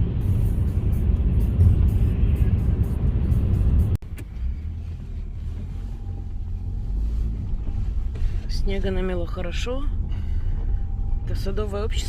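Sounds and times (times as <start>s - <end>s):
low engine hum: 0.0s - 12.0s
road noise inside car: 0.0s - 12.0s.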